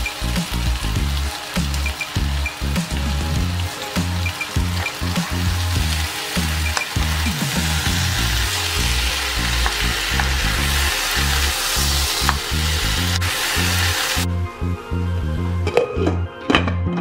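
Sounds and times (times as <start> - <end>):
vegetables sizzling in a pot: 0.0 - 14.3
background music with bass: 0.0 - 17.0.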